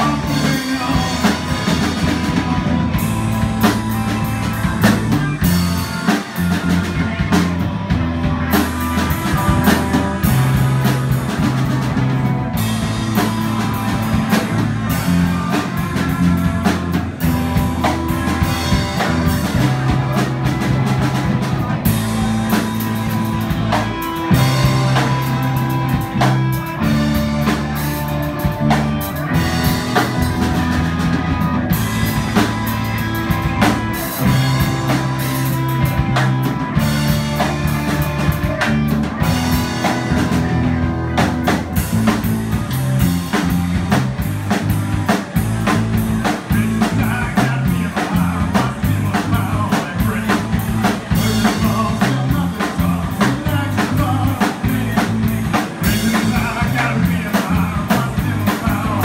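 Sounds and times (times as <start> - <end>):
drum kit with cymbals: 0.0 - 59.0
low bass notes: 0.0 - 59.0
quiet electric guitars: 0.0 - 59.0.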